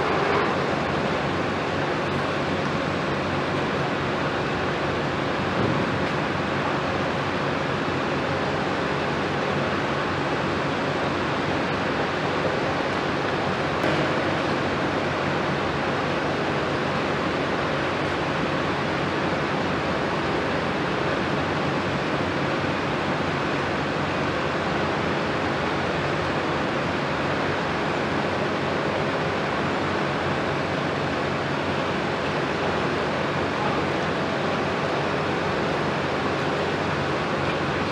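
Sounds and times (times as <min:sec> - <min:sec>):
heavy construction machinery running: 0:00.0 - 0:37.9.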